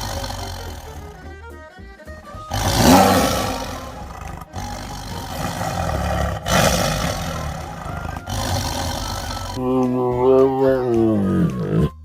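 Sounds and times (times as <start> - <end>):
wild animals roaring and growling: 0.0 - 1.2, 2.5 - 12.0.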